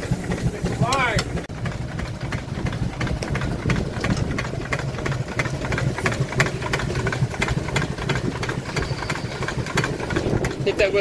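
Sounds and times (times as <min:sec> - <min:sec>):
steam pump engine knocking: 0:00.0 - 0:11.0.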